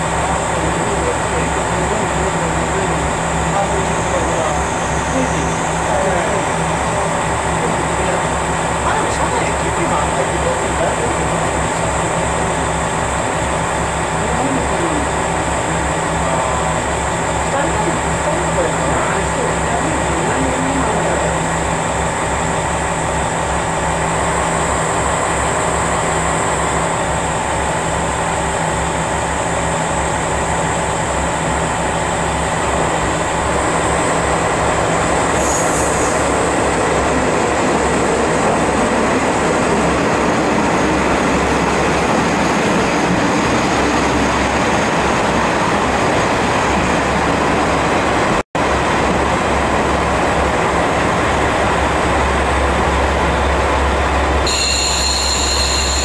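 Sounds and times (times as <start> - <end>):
diesel railcar pulling in: 0.0 - 56.0.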